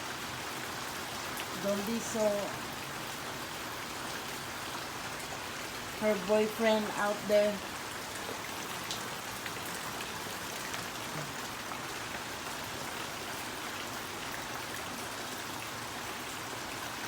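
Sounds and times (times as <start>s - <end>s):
rain pouring: 0.0s - 17.0s.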